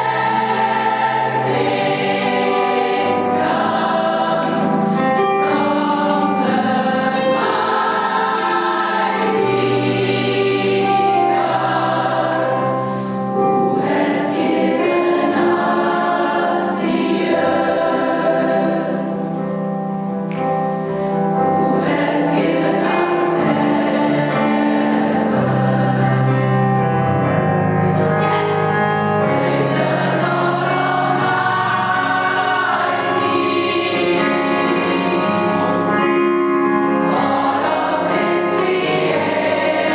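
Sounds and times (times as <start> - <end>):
gospel choir singing: 0.0 - 19.8, 20.5 - 39.9.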